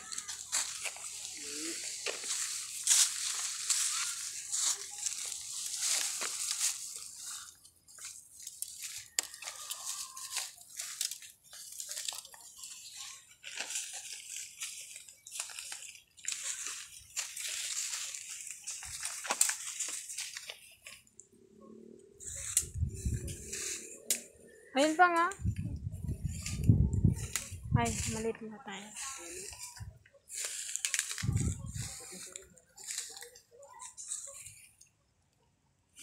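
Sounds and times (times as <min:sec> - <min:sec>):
footsteps crunching dry leaves: 0:00.0 - 0:21.1, 0:22.2 - 0:34.7
leaves brushing against phone: 0:00.0 - 0:21.1, 0:22.2 - 0:34.7.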